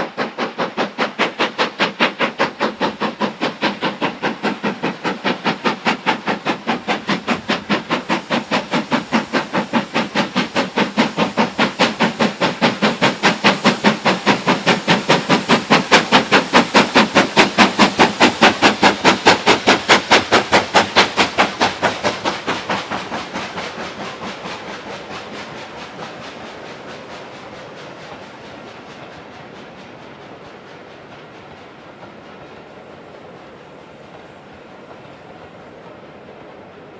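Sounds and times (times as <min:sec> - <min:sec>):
steam locomotive exhaust beating: 0:00.0 - 0:36.9.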